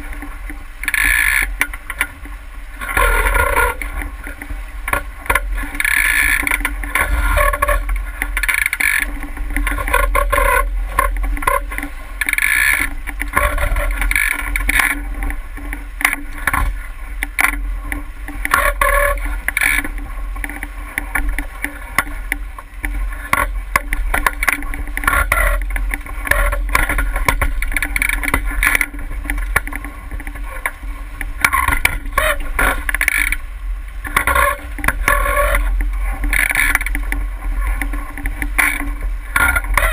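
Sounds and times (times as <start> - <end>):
steady low rumble: 0.0 - 39.9
water splashing against boat hull: 0.0 - 39.9.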